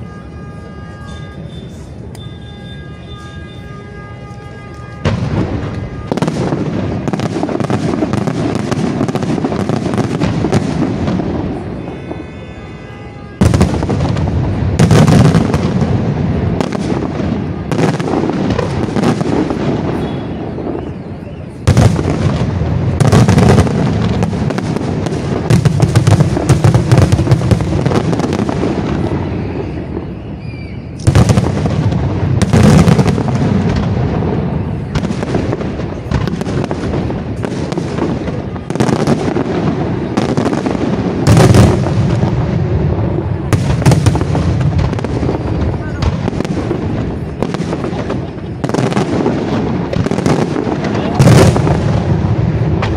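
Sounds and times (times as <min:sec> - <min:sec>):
fireworks bursts and crackling: 0:00.0 - 0:52.9.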